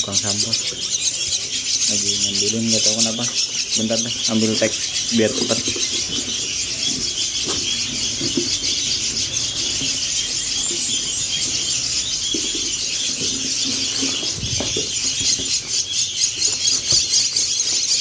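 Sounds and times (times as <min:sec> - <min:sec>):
nestlings cheeping: 0:00.0 - 0:18.0.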